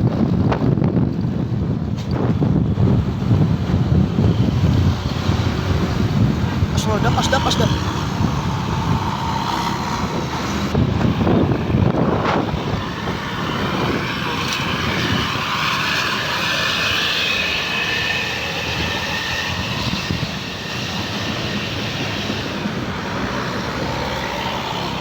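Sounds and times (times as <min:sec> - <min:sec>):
heavy vehicle passing: 0:01.4 - 0:25.0.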